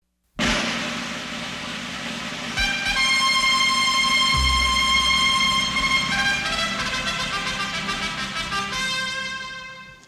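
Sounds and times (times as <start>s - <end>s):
rushing hiss-like noise: 0.4s - 9.5s.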